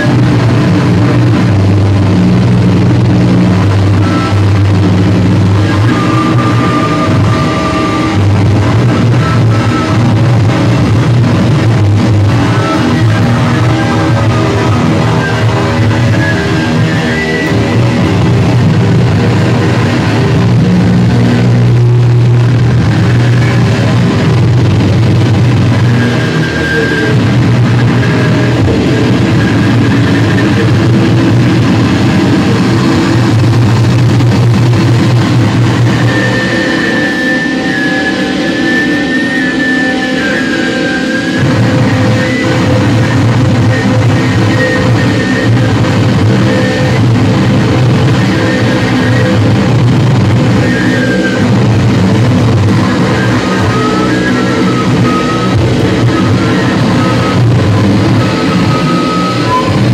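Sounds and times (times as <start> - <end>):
live rock music with electric guitar: 0.0 - 59.9.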